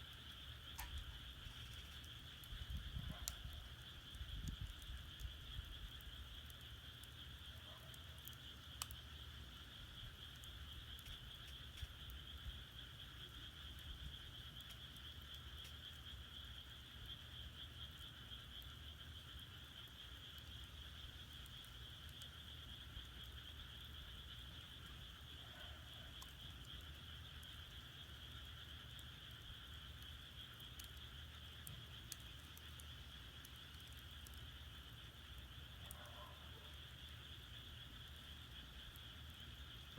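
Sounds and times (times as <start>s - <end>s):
firewood crackling: 0.0s - 7.6s, 8.2s - 25.4s, 26.1s - 36.0s.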